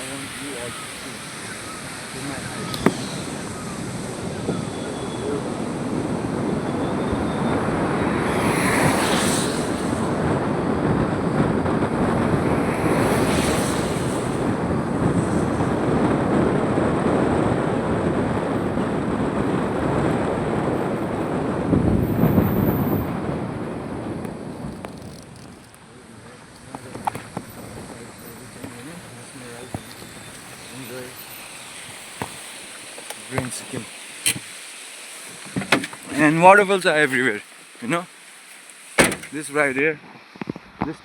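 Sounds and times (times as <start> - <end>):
waterfall roaring: 0.0 - 22.3, 23.0 - 39.8.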